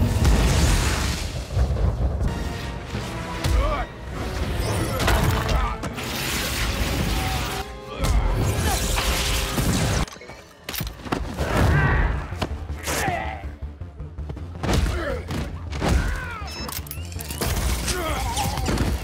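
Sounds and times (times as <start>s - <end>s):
film music: 0.0s - 19.0s.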